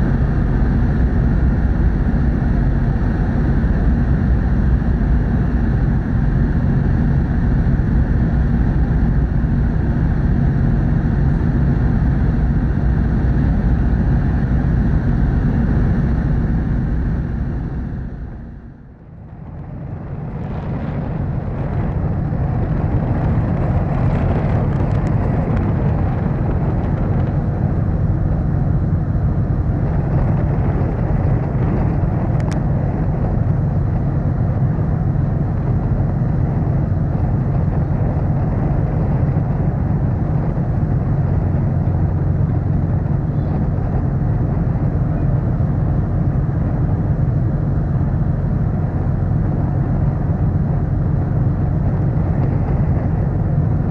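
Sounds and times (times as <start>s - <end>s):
ferry engine rumble: 0.0s - 53.9s
rushing wind: 0.0s - 53.9s.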